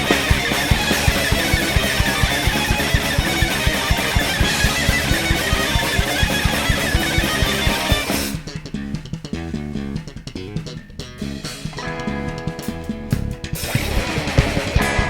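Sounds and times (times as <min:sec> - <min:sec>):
guitar strumming: 0:00.0 - 0:15.0
rapid kick drum beats: 0:00.0 - 0:15.0.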